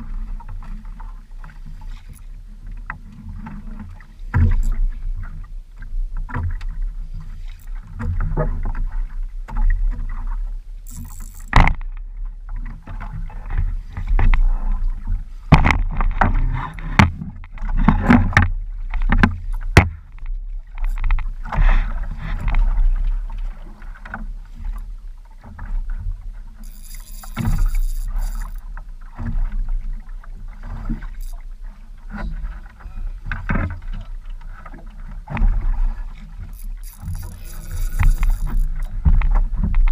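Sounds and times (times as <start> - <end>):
boat knocking and creaking: 0.0 - 39.9
water slapping against boat hull: 2.7 - 39.9.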